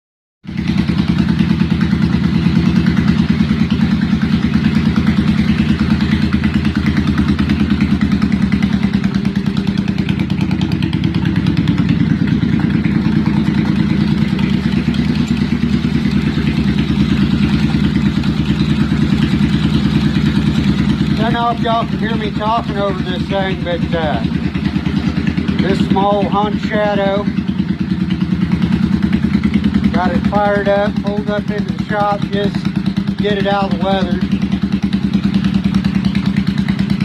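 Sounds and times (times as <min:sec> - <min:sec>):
motorcycle engine idling: 0:00.5 - 0:37.0.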